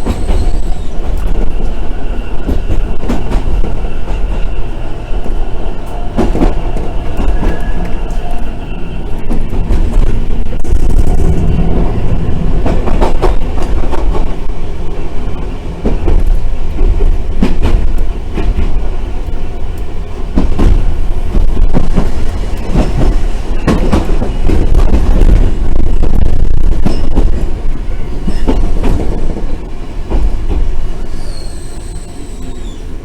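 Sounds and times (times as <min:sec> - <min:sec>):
tram wheels and motors rumbling: 0:00.0 - 0:33.0.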